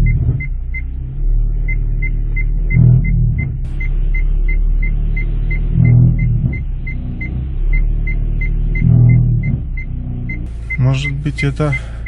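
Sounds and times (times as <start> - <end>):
low droning engine rumble: 0.0 - 12.0.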